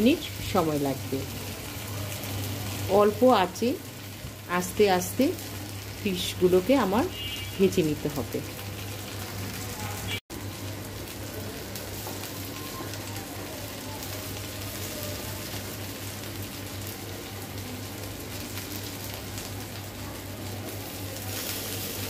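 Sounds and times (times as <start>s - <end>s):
fish sizzling in oil: 0.0s - 22.0s.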